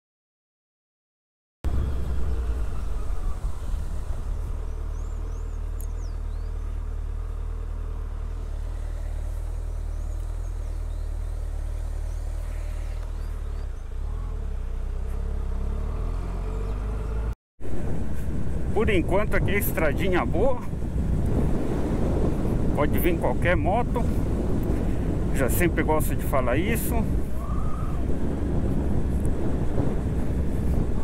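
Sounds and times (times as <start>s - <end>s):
steady low rumble: 1.6s - 13.9s, 17.6s - 31.0s
motorcycle engine cruising: 1.7s - 31.0s.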